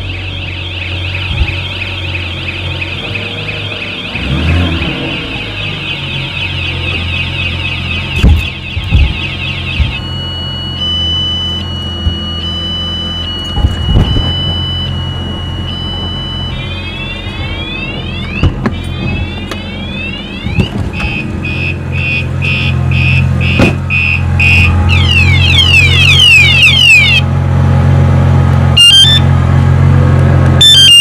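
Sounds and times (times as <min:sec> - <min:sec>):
alarm siren: 0:00.0 - 0:27.4, 0:28.7 - 0:29.4, 0:30.6 - 0:31.0
car engine running: 0:00.0 - 0:31.0.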